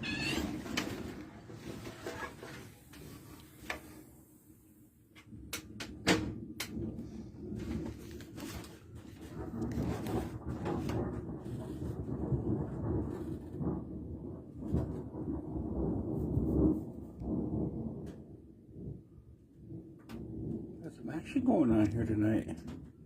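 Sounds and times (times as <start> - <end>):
distant thunder rumbling: 0.0 - 23.0.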